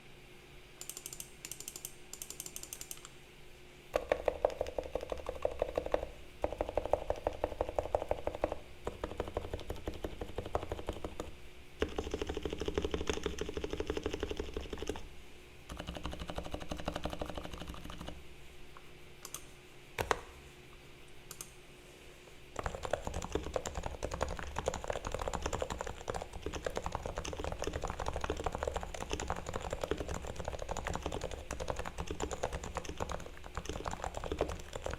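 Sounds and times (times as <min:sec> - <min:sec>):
soft muted keyboard typing: 0:00.8 - 0:03.1, 0:04.0 - 0:15.1, 0:15.7 - 0:18.2, 0:19.2 - 0:20.2, 0:21.3 - 0:21.6, 0:22.6 - 0:34.9.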